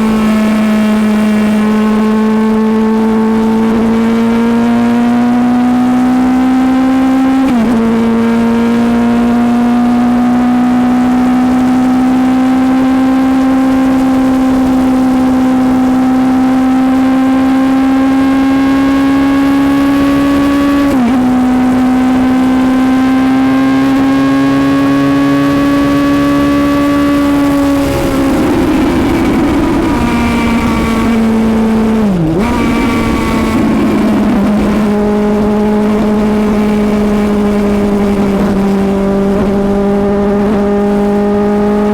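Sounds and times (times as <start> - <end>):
motorcycle engine at road speed: 0.0 - 41.9.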